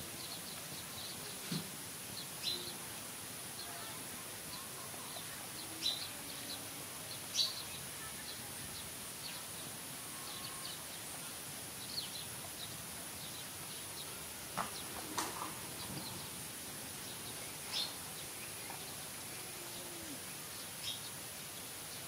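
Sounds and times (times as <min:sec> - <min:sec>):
small birds chirping: 0:00.0 - 0:22.0
steady hiss: 0:00.0 - 0:22.0.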